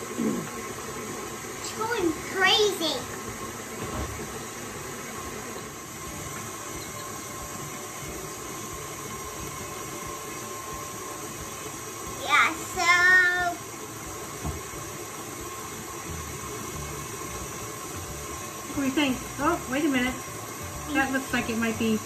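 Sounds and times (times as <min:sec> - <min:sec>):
stand mixer whining: 0:00.0 - 0:22.0.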